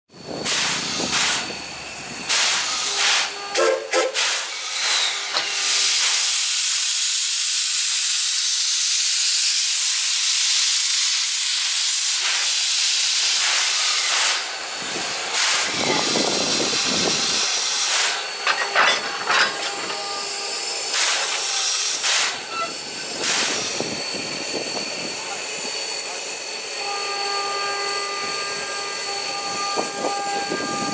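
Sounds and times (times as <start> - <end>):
steam locomotive hissing: 0.2 - 30.9.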